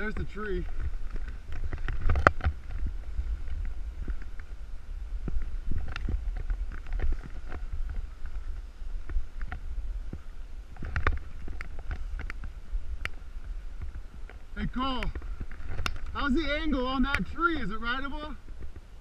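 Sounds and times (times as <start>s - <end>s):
snowboard scraping over snow: 0.0s - 19.0s
wind rumbling on microphone: 0.0s - 19.0s.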